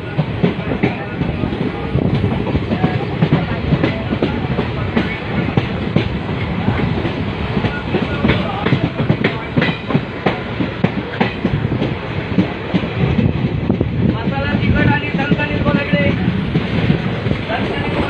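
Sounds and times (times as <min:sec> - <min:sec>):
train rumble: 0:00.0 - 0:18.0
train wheels clattering over rails: 0:00.0 - 0:18.0.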